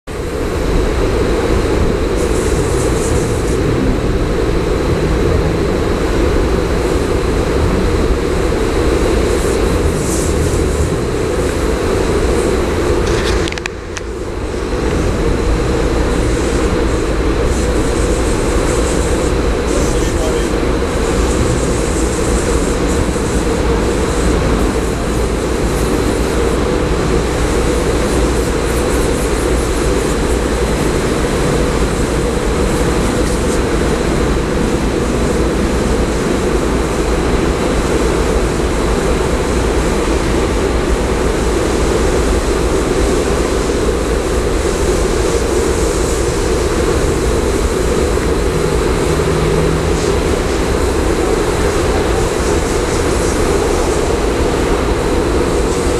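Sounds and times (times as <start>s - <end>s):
car wash drying blowers: 0.0s - 55.9s
conveyor moving car: 0.0s - 55.9s.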